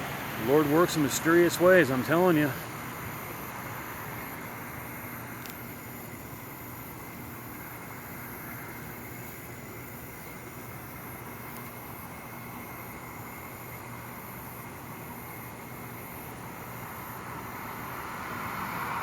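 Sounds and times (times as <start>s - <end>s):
faint hum: 0.0s - 19.0s
outdoor rumble and hiss: 0.0s - 19.0s.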